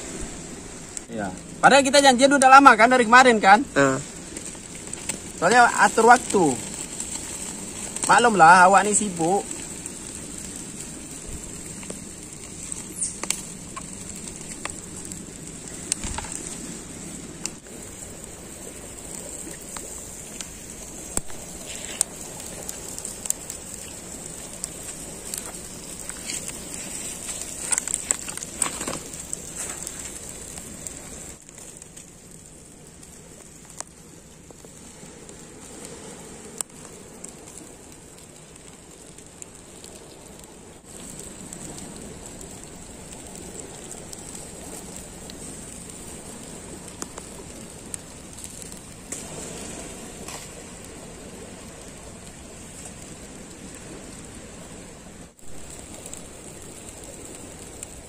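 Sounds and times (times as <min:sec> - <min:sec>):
fish sizzling over fire: 0:00.0 - 0:58.0.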